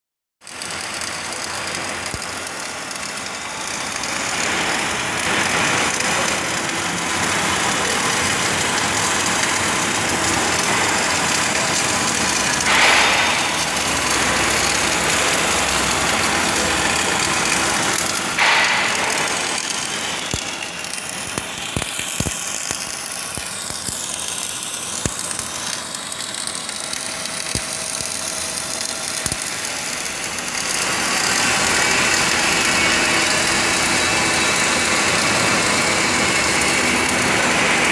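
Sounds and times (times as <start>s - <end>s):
welding arc crackling: 0.4s - 37.9s
welding spatter pops: 0.5s - 37.8s.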